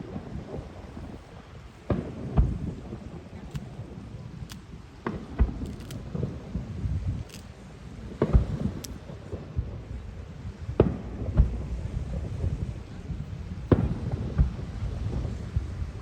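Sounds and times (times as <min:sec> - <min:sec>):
distant fireworks booming: 0:00.0 - 0:16.0.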